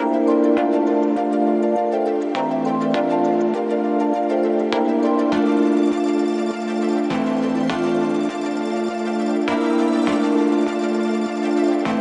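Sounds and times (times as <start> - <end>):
soft synthesizer chords: 0.0 - 12.0.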